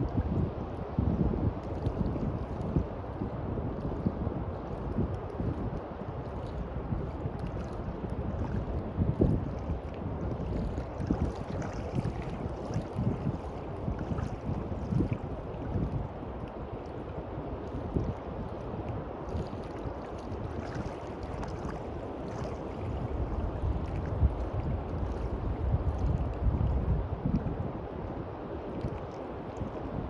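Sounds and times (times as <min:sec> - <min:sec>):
sea waves washing on beach: 0:00.0 - 0:30.0
wind buffeting microphone: 0:00.0 - 0:30.0.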